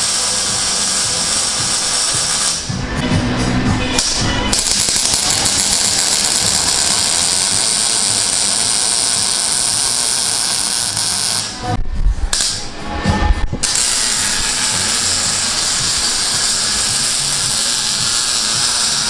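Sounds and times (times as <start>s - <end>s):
welding arc crackling and hissing: 0.0s - 2.8s, 3.9s - 11.7s, 13.6s - 19.0s.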